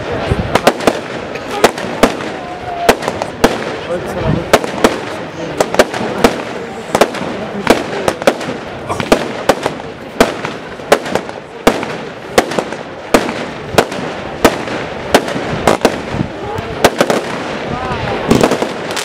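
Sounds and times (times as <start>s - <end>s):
fireworks bangs: 0.0s - 19.0s
hiss and crackle: 0.0s - 19.0s.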